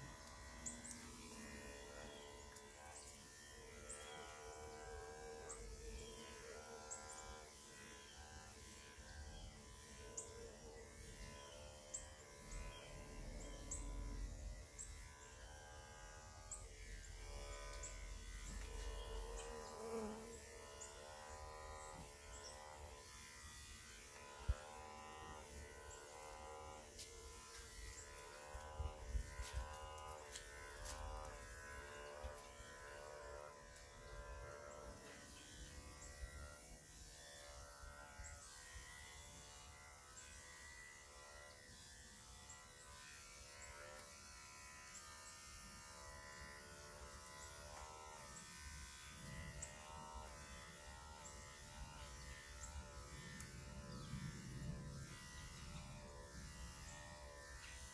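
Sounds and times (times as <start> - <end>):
electric clippers buzzing: 0.0 - 57.9.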